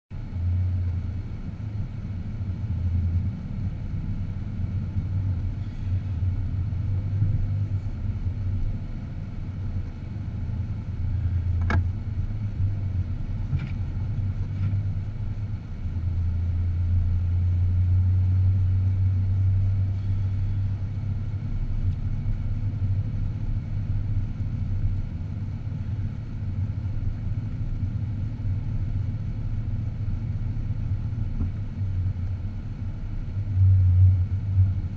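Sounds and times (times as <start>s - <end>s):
car engine and road noise: 0.1s - 34.9s.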